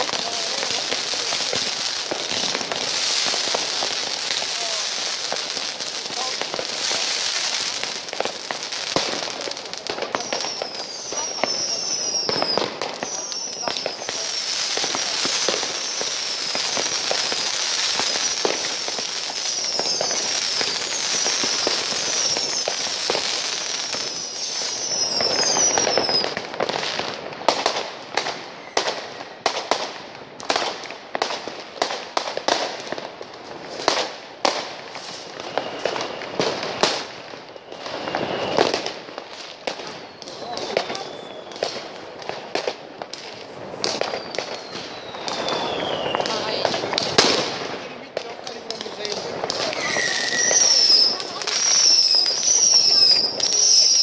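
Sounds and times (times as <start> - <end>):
fireworks crackling hiss: 0.0 - 54.0
fireworks falling whistles: 0.0 - 54.0
fireworks sharp bangs: 0.0 - 54.0.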